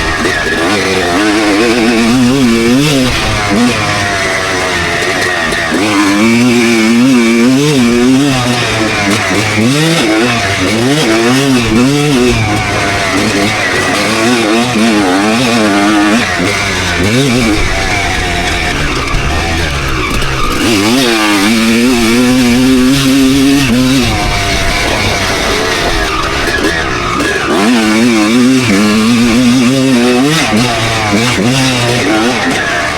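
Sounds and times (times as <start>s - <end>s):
two-stroke motorcycle engine revving: 0.0s - 32.9s.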